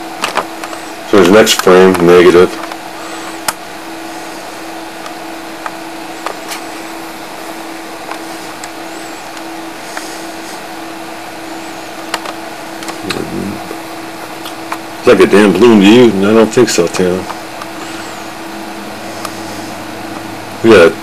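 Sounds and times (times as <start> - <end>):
background hum and hiss: 0.0 - 21.0.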